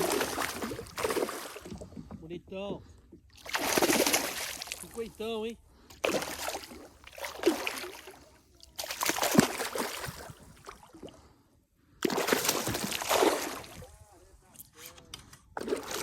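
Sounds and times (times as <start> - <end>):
water splashing and sloshing: 0.0 - 14.5, 15.5 - 16.0.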